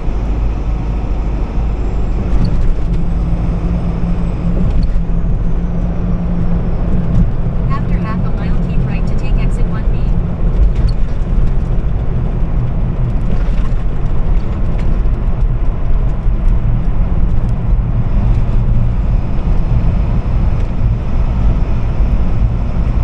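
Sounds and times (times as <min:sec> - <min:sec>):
truck driving on road: 0:00.0 - 0:23.0.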